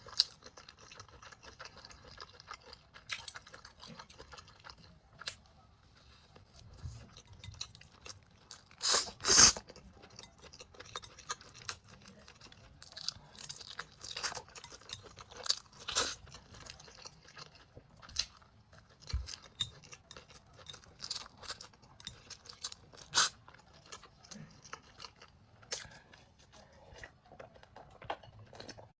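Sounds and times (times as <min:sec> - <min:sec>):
person chewing: 0:00.0 - 0:05.5, 0:06.3 - 0:28.9.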